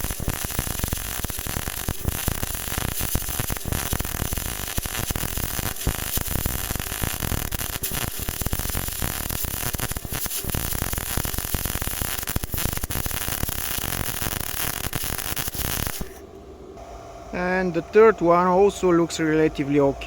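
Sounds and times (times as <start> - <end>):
welding arc crackling: 0.0 - 16.2.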